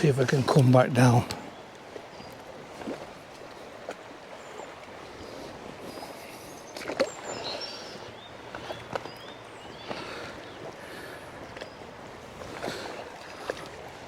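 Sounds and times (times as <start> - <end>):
running river water: 0.0 - 14.0.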